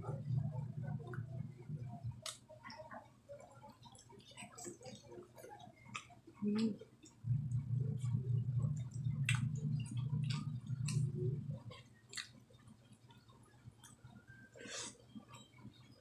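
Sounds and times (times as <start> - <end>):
low steady hum: 0.0 - 16.0
wet chewing and mouth clicks: 0.2 - 16.0.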